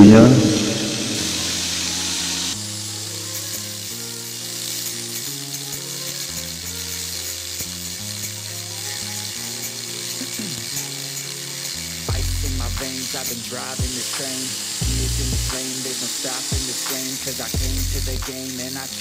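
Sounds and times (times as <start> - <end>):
angle grinder cutting steel: 0.0 - 19.0.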